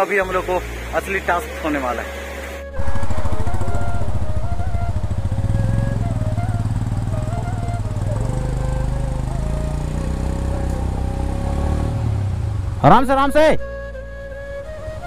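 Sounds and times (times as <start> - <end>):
motorcycle engine revving: 0.0 - 12.9, 14.0 - 15.0.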